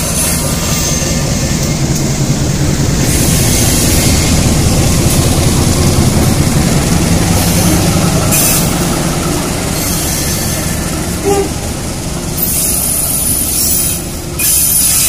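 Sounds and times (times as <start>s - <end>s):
diesel locomotive engine: 0.0s - 15.0s
train cars rolling past: 0.0s - 15.0s.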